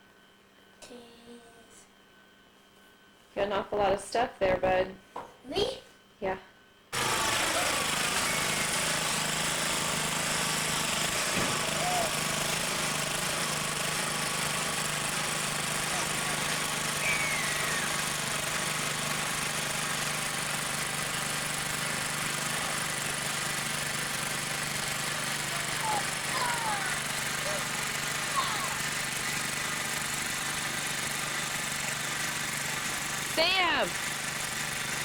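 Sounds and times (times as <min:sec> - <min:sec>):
small engine running: 0:06.9 - 0:35.0.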